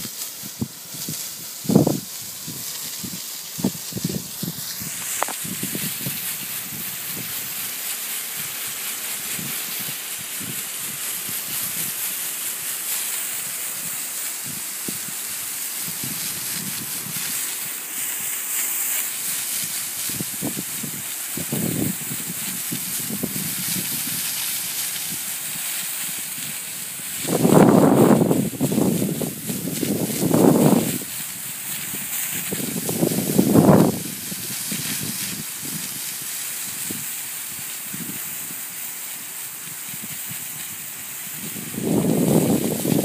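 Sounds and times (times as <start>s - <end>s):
blower air hiss: 0.0s - 43.0s.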